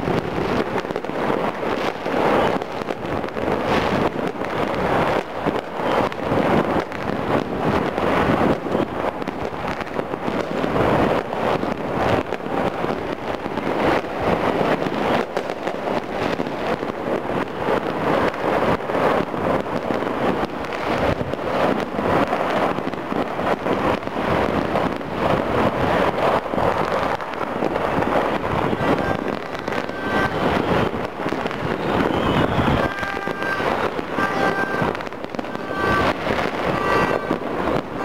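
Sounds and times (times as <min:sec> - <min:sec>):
firecrackers and fireworks crackling: 0:00.0 - 0:38.0.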